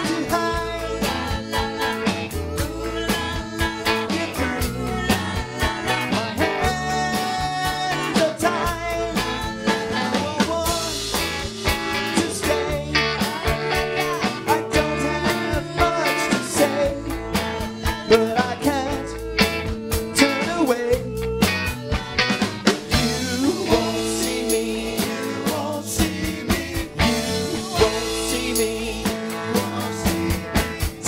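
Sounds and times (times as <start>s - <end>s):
live rock band: 0.0s - 31.0s
person singing: 0.0s - 31.0s.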